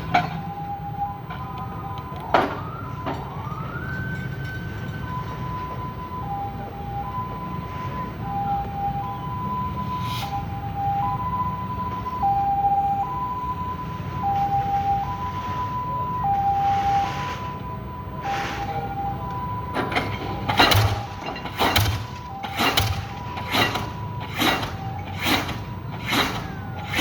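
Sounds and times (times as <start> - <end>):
two-tone warning siren: 0.0 - 27.0.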